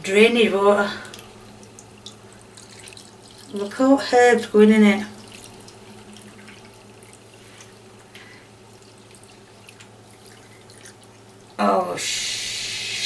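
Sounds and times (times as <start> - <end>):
water dripping: 0.0 - 12.9.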